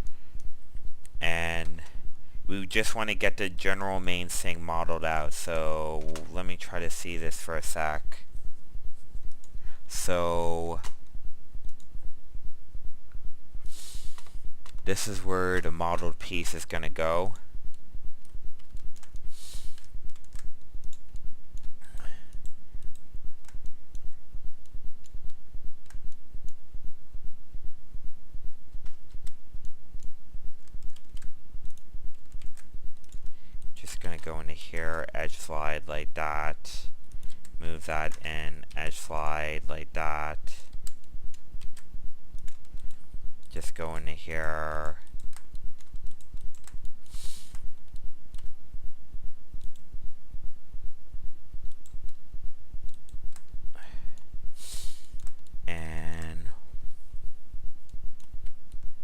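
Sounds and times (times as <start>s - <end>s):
throbbing low hum: 0.0s - 59.0s.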